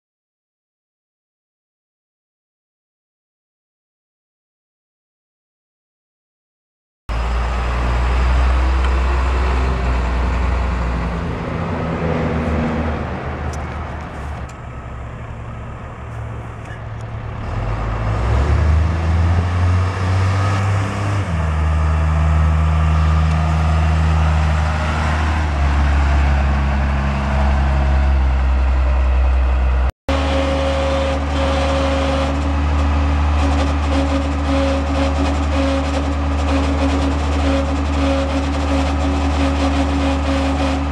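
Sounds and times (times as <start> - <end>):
diesel truck engine: 7.1 - 40.9.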